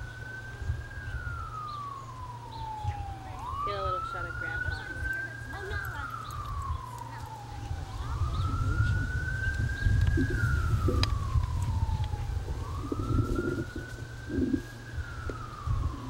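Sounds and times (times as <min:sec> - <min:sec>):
emergency vehicle siren wailing: 0:00.0 - 0:16.0
steady low rumble: 0:00.0 - 0:16.0.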